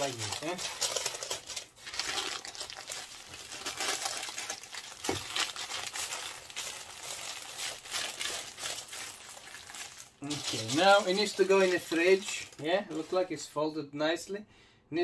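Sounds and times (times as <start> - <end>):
wrapping sheet crinkling: 0.0 - 13.4.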